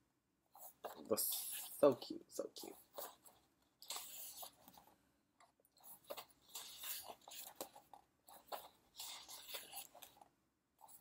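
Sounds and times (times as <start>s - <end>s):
book pages rustling and flicking: 0.5s - 11.0s.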